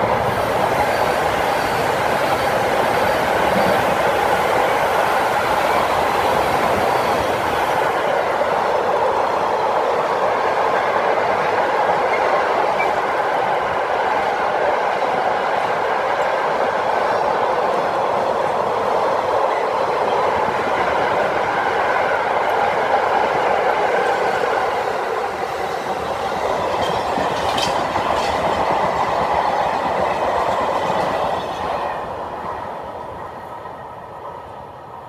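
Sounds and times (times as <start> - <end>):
train wheels rolling on track: 0.0 - 35.0.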